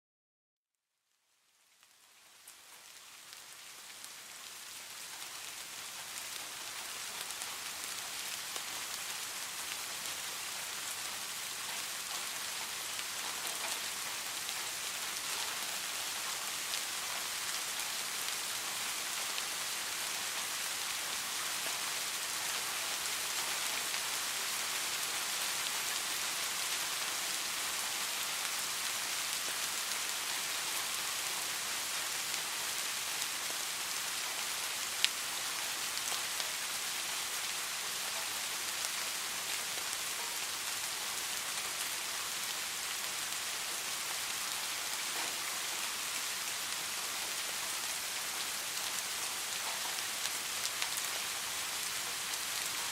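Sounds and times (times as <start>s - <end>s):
steady rainfall: 1.3s - 52.9s.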